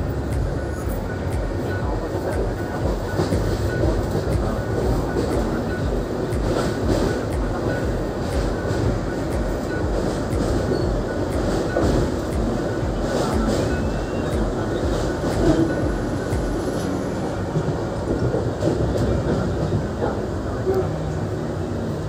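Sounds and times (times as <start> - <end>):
rail clicks: 0.0 - 22.0
train wheels rumbling on track: 0.0 - 22.0.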